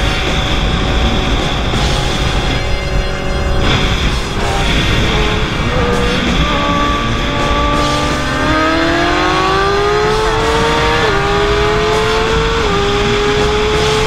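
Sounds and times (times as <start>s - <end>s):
motorcycle engines accelerating: 0.0s - 14.0s
steady rushing noise: 0.0s - 14.0s.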